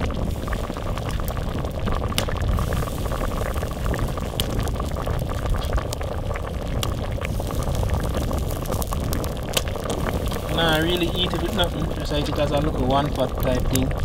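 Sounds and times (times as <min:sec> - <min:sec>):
stew pot bubbling at a boil: 0:00.0 - 0:14.0
small pops: 0:00.8 - 0:14.0.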